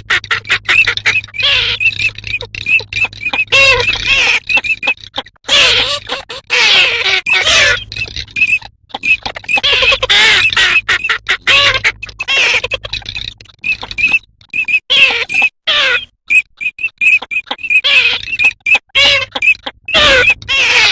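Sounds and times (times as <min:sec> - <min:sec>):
ducks quacking and chattering: 0:00.0 - 0:20.9.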